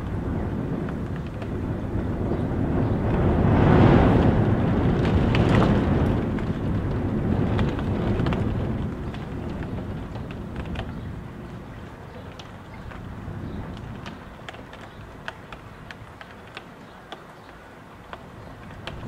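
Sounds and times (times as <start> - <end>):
rain taps: 0.0 - 19.0
wind rumbling around a house: 0.0 - 19.0.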